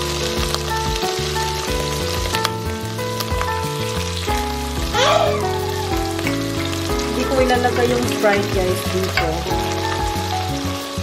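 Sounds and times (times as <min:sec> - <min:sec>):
background music: 0:00.0 - 0:11.0
shrimp sizzling in butter: 0:00.0 - 0:11.0.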